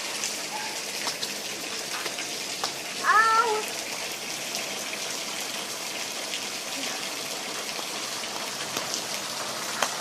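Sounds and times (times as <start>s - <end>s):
steady rain: 0.0s - 10.0s
water dripping: 0.0s - 10.0s.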